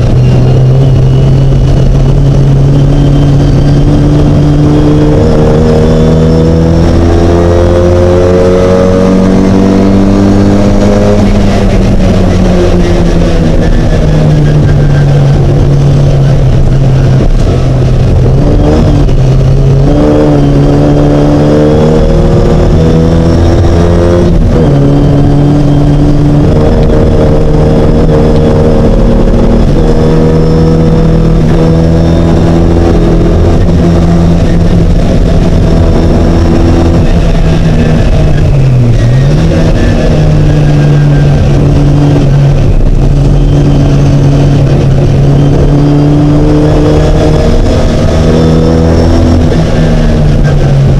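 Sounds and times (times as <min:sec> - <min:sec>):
race car engine running hard: 0:00.0 - 0:50.9.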